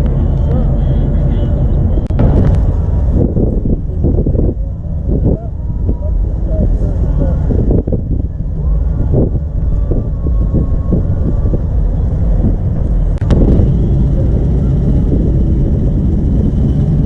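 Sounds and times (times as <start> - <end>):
car engine rumbling: 0.0 - 17.0
wind buffeting microphone: 0.0 - 17.0.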